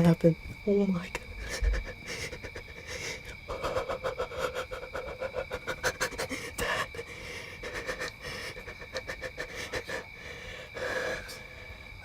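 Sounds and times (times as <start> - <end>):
person panting hard: 1.4 - 11.3.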